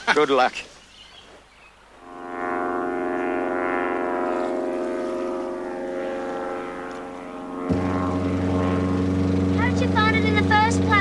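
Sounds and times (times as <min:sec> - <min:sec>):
propeller aircraft engine drone: 0:02.0 - 0:11.0.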